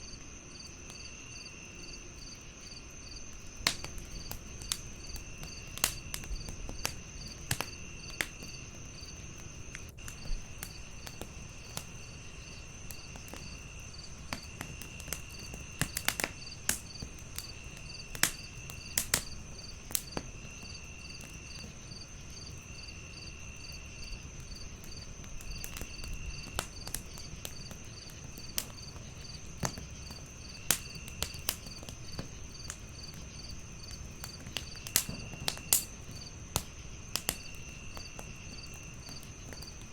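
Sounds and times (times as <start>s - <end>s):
pulsing insect chirp: 0.0s - 39.8s
low insect call in bursts: 0.0s - 39.9s
wood fire crackling and popping: 0.1s - 39.9s.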